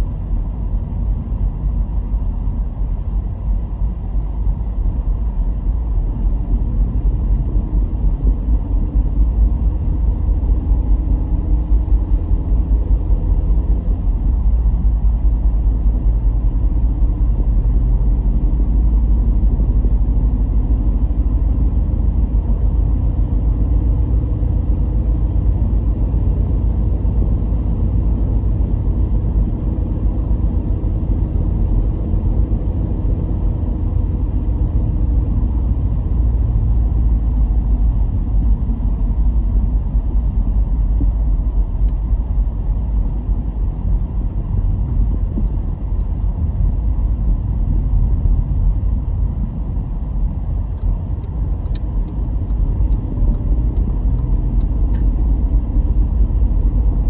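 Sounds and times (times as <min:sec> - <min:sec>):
car driving on road: 0:00.0 - 0:57.0.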